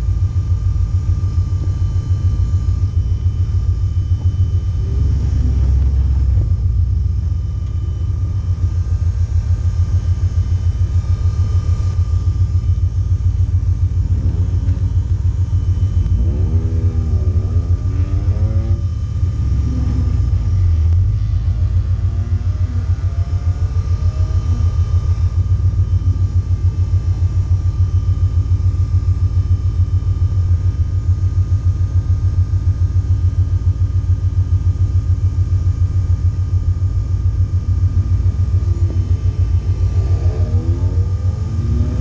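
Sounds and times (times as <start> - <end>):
race car engine idling: 0.0 - 42.0
steady high whine: 0.0 - 42.0.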